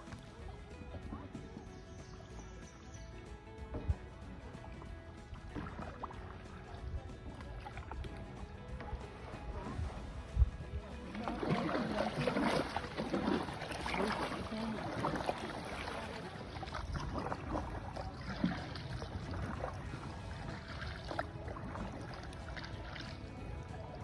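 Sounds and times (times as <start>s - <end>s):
paddles dipping into water: 0.0s - 24.0s
water splashing and dripping: 0.0s - 24.0s.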